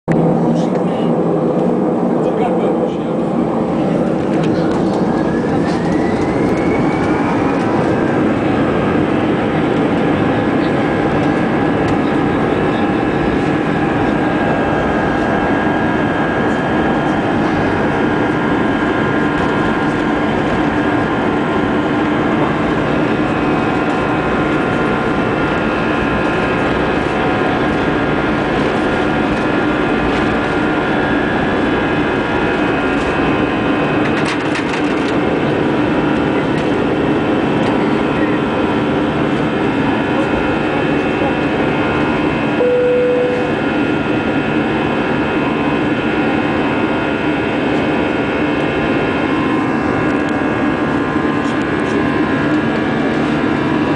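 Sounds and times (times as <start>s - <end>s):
jet engines at take-off thrust: 0.1s - 53.9s.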